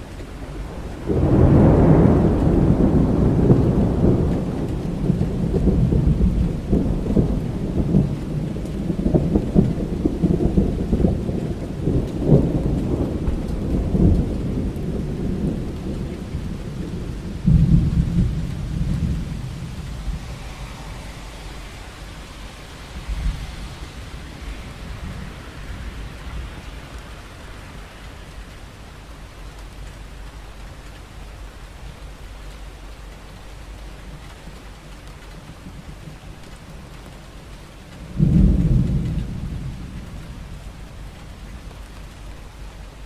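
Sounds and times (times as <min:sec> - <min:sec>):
steady rain: 0:00.0 - 0:43.0
thunder rumbling: 0:00.0 - 0:43.0.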